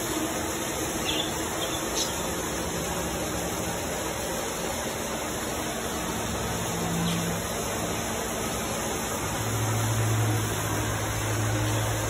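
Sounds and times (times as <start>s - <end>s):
small waterfall rushing: 1.0s - 12.0s.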